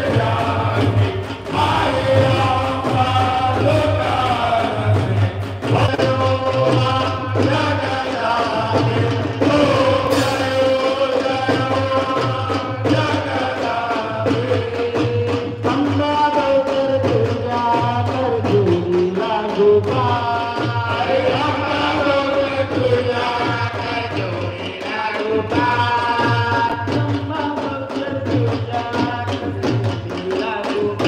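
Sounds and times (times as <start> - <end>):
people singing devotional song: 0.0 - 31.0
steady drum beat: 0.0 - 31.0.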